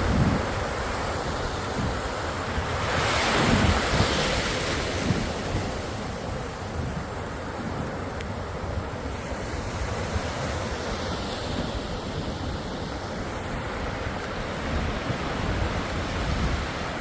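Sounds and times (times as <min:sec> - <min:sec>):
wind buffeting microphone: 0:00.0 - 0:08.0, 0:08.7 - 0:17.0
waves breaking on beach: 0:00.0 - 0:17.0.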